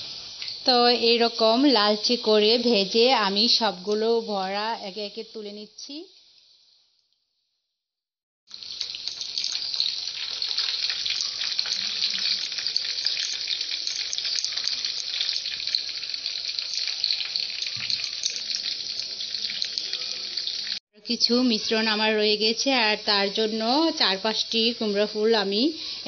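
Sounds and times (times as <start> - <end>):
food deep-frying in oil: 0.0 - 7.2, 8.5 - 26.0.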